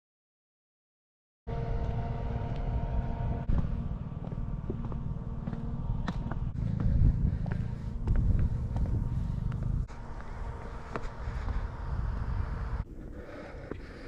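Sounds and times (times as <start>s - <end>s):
vehicle rumbling in motion: 1.5s - 13.0s
faint steady hum: 1.5s - 14.0s.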